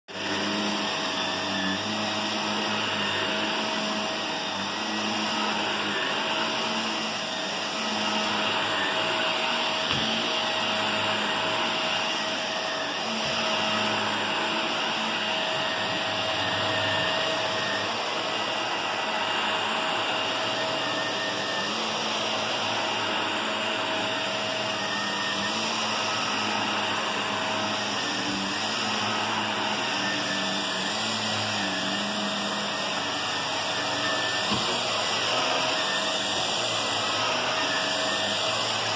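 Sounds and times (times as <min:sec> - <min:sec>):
vacuum cleaner running: 0:00.1 - 0:38.9.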